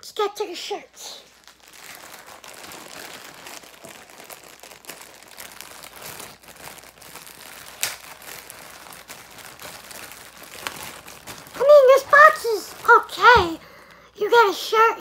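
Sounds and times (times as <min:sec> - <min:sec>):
packaging crinkling: 0:01.0 - 0:14.1.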